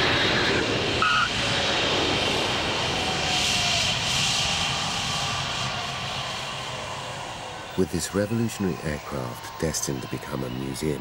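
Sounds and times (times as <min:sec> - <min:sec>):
jet engines roaring with whine: 0:00.0 - 0:11.0.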